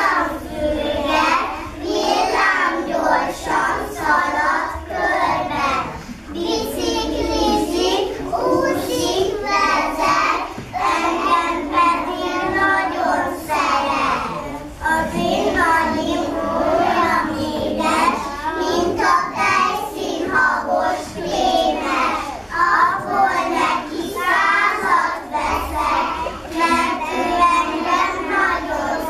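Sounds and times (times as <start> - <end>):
children singing together: 0.0 - 29.0.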